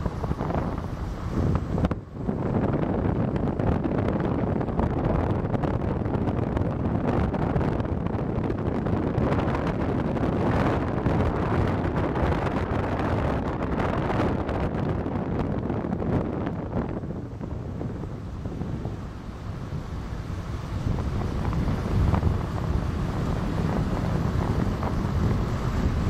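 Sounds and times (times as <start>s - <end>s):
road and engine noise: 0.0s - 26.0s
wind buffeting microphone: 0.0s - 26.0s.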